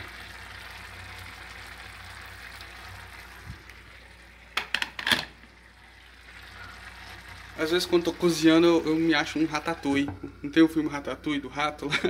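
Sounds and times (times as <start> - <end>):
rice simmering in a pot: 0.0 - 11.8.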